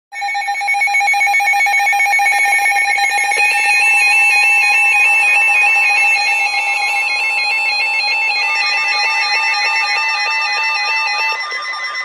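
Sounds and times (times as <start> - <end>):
electronic alarm tone: 0.2 - 12.0
warbling higher tone: 2.2 - 12.0.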